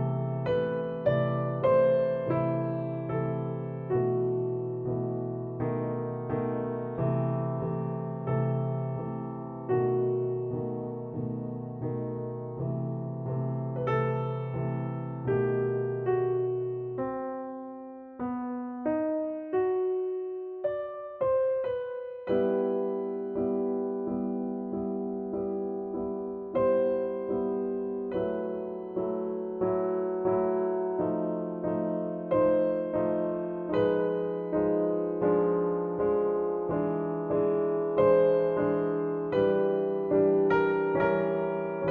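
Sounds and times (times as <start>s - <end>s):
soft piano music: 0.0s - 41.9s.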